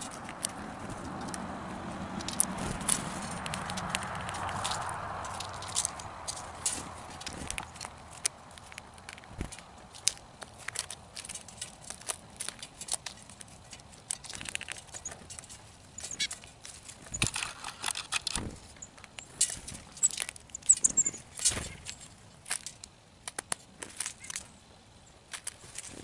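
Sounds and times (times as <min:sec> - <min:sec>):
birds pecking seed: 0:00.0 - 0:26.0.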